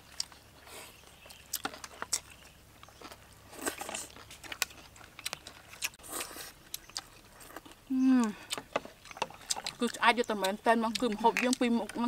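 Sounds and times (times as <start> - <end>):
people chewing and crunching food: 0.0 - 12.0.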